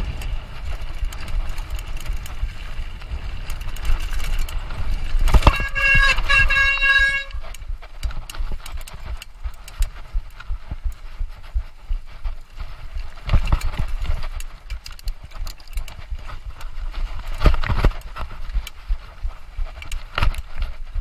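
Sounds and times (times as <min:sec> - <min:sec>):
bike rattling over rough ground: 0:00.0 - 0:21.0.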